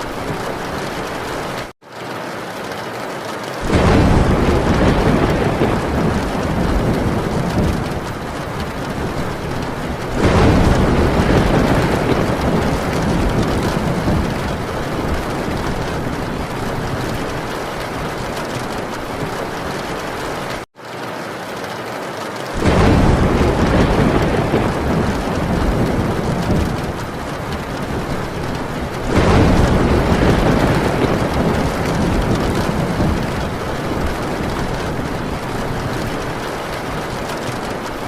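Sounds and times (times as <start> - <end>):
thunder rolling: 0.0 - 1.7, 3.6 - 20.6, 22.6 - 38.0
heavy rain on a tin roof: 0.0 - 38.0.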